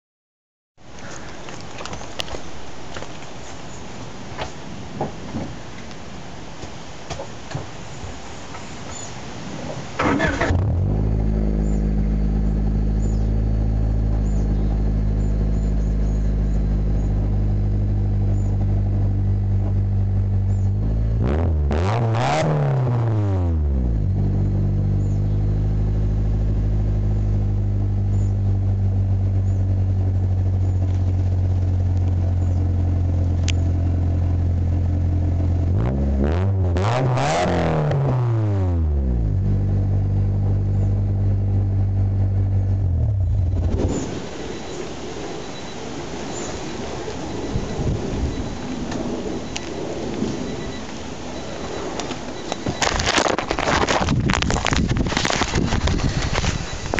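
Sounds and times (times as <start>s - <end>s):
car engine idling and revving: 7.6s - 56.9s.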